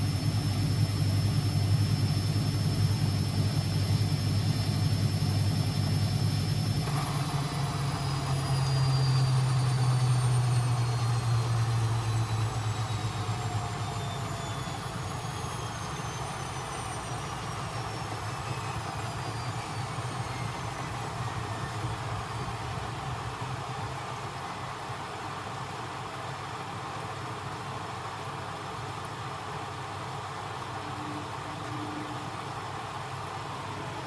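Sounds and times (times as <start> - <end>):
washing machine motor whine: 0.0 - 34.0.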